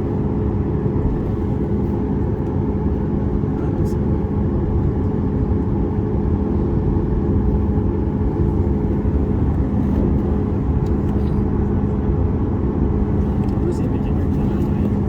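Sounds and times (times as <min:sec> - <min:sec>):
airliner cabin rumble and drone: 0:00.0 - 0:15.0.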